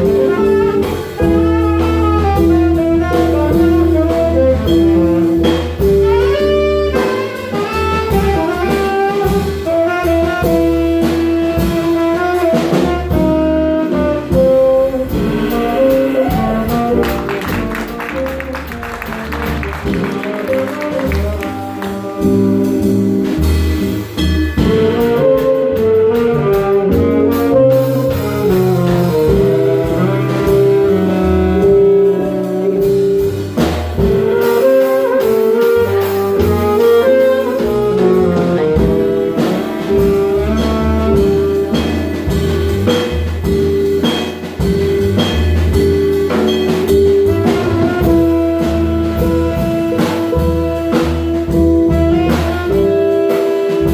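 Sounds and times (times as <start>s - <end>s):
drum kit: 0.0s - 53.9s
saxophones playing jazz: 0.0s - 53.9s
upright bass: 0.0s - 53.9s.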